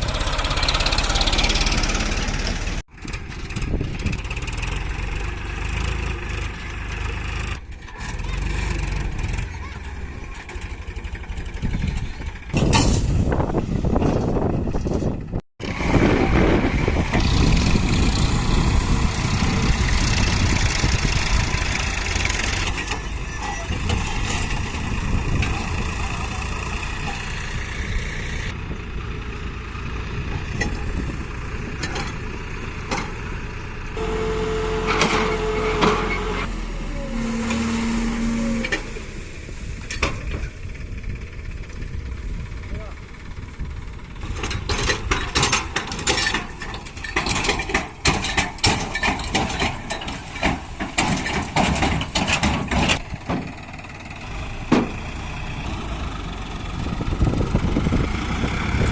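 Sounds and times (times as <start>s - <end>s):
diesel machinery engines under load: 0.0s - 58.9s.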